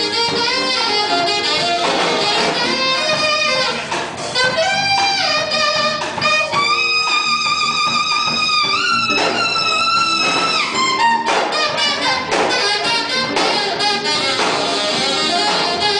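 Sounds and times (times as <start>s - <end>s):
orchestra playing: 0.0s - 15.9s.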